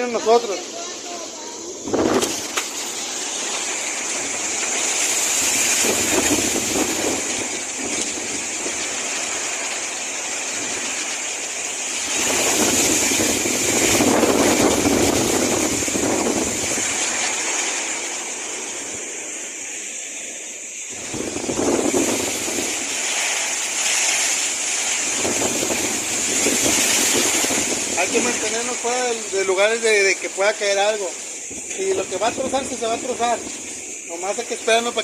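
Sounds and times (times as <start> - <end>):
storm wind gusting: 0.0 - 35.0.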